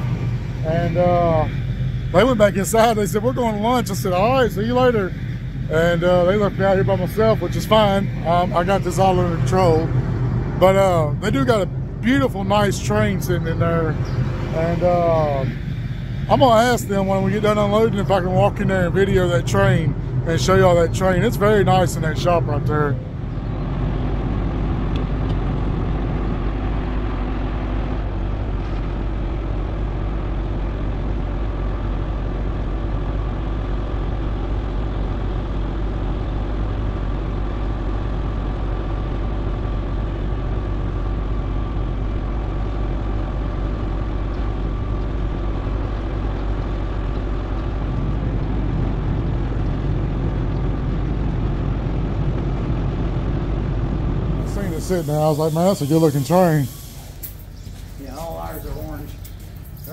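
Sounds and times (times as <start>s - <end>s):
faint steady whine: 0.0s - 59.9s
truck diesel engine running: 0.0s - 59.9s.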